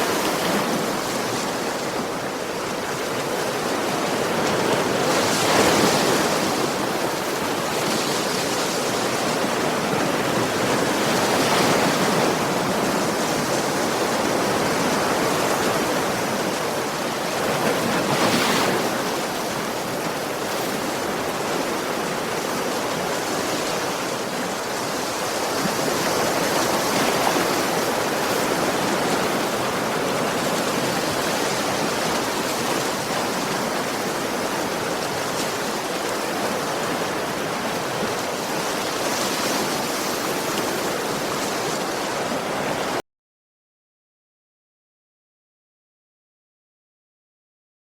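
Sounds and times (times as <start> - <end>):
waves breaking on beach: 0.0 - 43.0.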